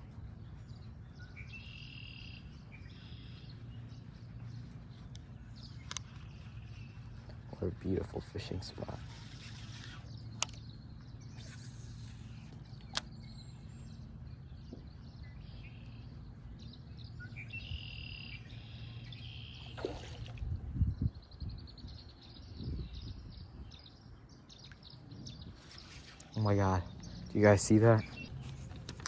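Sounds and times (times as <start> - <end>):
birds chirping: 0.0 - 29.0
steady low hum: 0.0 - 29.0.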